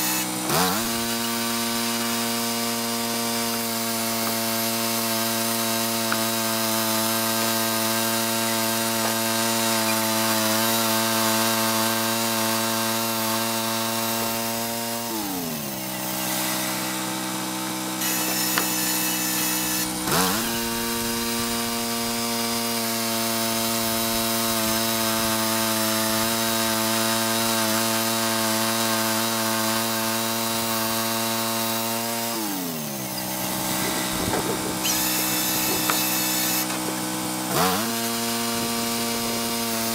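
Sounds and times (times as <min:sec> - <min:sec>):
bandsaw mill engine running: 0:00.0 - 0:39.9
saw blade cutting log: 0:00.0 - 0:39.9.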